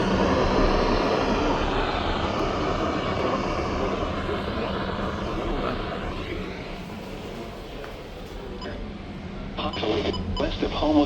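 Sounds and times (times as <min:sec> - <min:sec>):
steady rushing noise: 0:00.0 - 0:09.4
low hum: 0:00.0 - 0:11.0.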